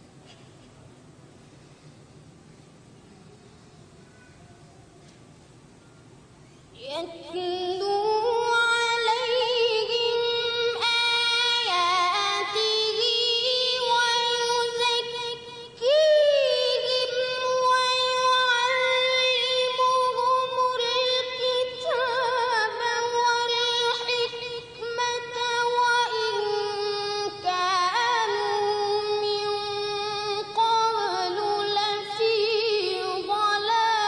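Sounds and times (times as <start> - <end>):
boy reciting melodically: 6.4 - 34.0.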